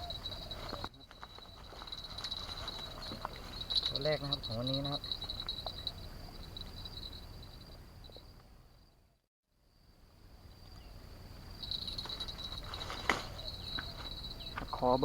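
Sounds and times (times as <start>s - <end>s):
faint outdoor background noise: 0.0s - 15.0s
insects trilling: 0.0s - 15.0s.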